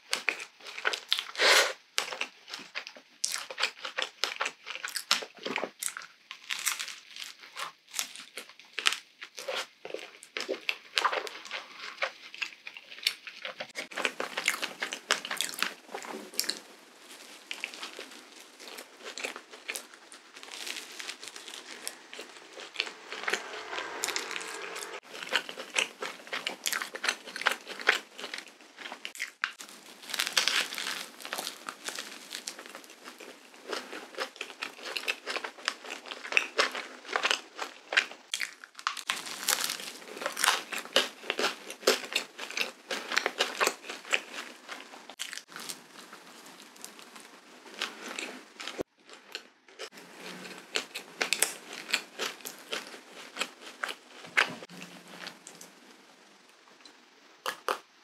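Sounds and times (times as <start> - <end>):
chewing with mouth clicks: 0.1 - 16.6, 17.5 - 55.8.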